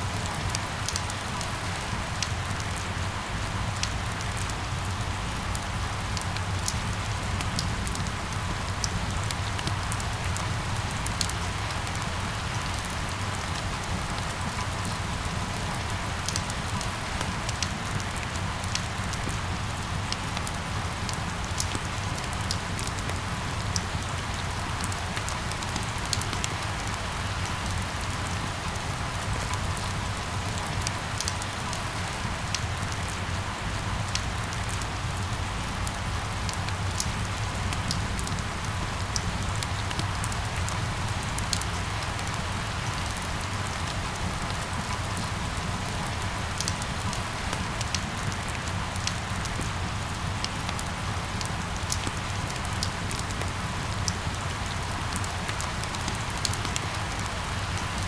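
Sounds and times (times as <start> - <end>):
low city rumble: 0.0 - 58.0
rain on hard surfaces: 0.0 - 58.0.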